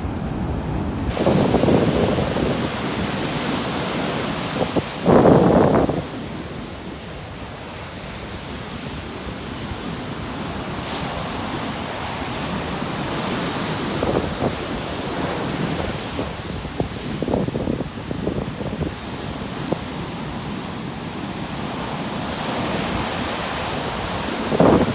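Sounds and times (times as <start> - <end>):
sea waves washing on shore: 0.0 - 24.9
wind buffeting microphone: 0.0 - 24.9.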